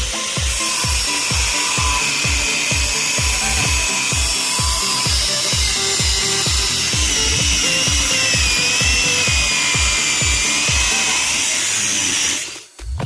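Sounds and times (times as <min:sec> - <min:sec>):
music with kick-drum beat: 0:00.0 - 0:11.4, 0:12.7 - 0:13.0
power tool motor whine: 0:00.0 - 0:12.9.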